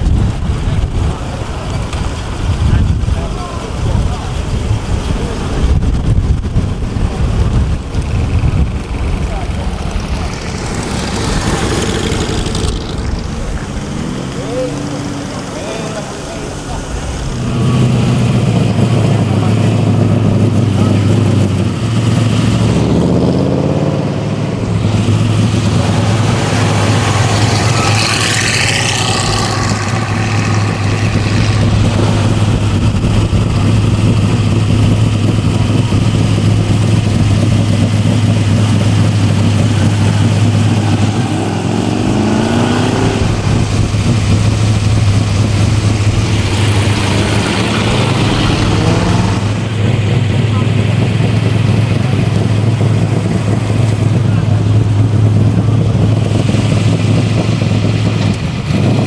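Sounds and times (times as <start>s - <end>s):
pickup engine idling and revving: 0.0s - 59.0s.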